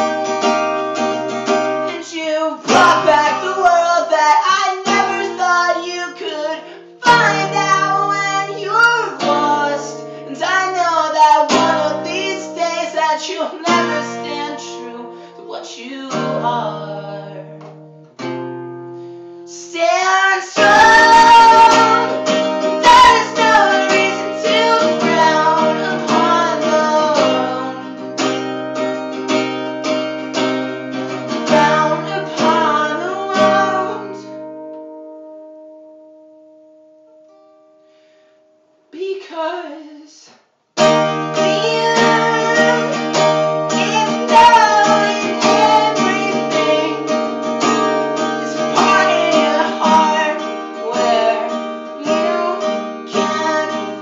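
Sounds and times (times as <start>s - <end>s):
acoustic guitar playing: 0.0s - 38.9s, 40.8s - 54.0s
person singing: 1.7s - 17.7s, 19.5s - 28.5s, 30.7s - 34.5s, 38.9s - 54.0s.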